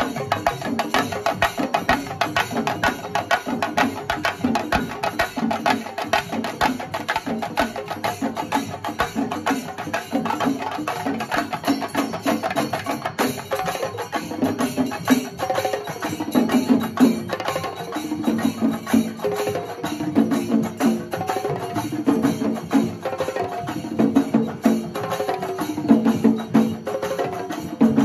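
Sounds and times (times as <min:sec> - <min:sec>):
drums beaten fast with sticks: 0:00.0 - 0:28.0
hand cymbals ringing: 0:00.0 - 0:28.0.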